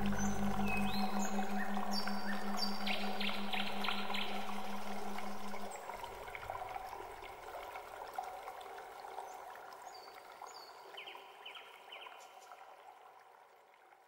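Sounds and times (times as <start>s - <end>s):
faint rushing water: 0.0s - 14.0s.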